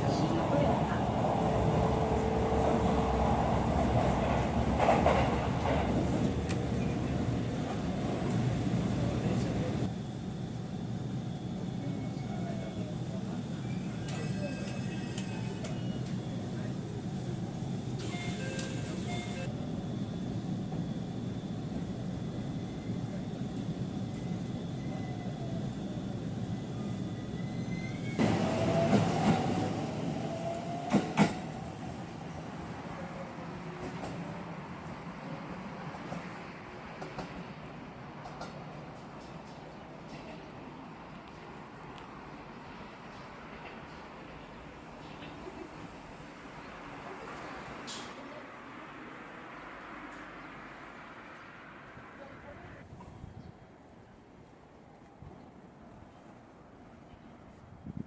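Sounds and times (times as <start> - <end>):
train wheels rumbling on track: 0.0 - 53.1.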